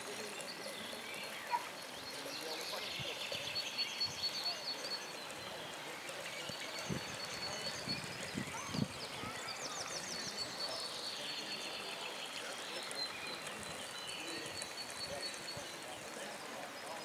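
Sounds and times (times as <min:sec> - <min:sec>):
birds calling: 0:00.1 - 0:17.0.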